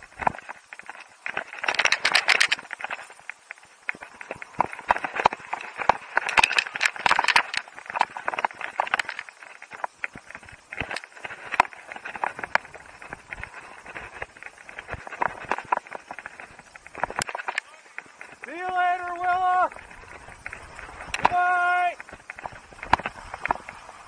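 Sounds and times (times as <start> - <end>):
sharp clicks and knocks: 0.0 - 18.7, 19.7 - 21.4, 22.0 - 24.0
skis scraping on hard snow: 0.0 - 24.0.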